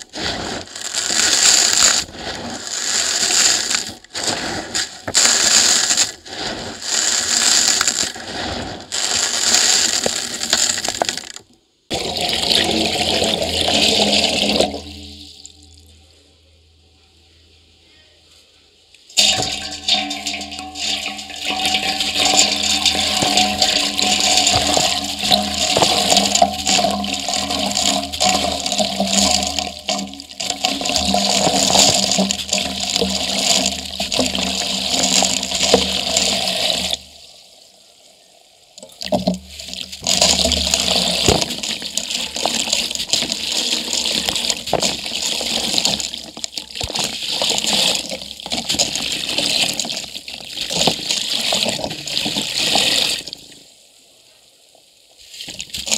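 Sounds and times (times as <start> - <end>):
grit pouring into steel bucket: 0.0 - 15.6, 19.2 - 37.2, 39.0 - 53.5.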